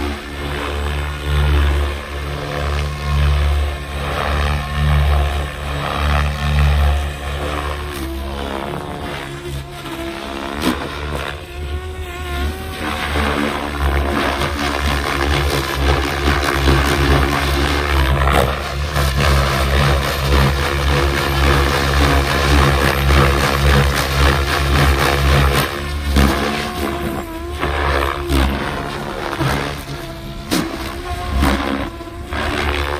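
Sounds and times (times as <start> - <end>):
electric motor whine: 0.0 - 32.9
helicopter rotor chopping: 0.0 - 32.9.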